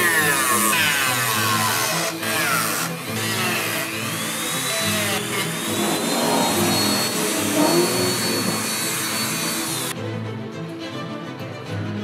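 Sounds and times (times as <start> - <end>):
rotary tool sanding leather: 0.0 - 10.0.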